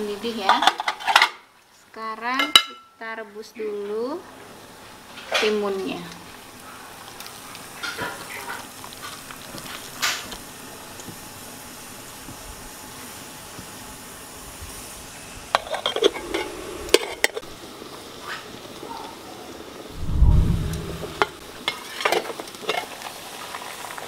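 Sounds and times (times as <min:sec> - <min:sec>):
water boiling in a pot: 0:00.0 - 0:19.9, 0:21.4 - 0:24.0.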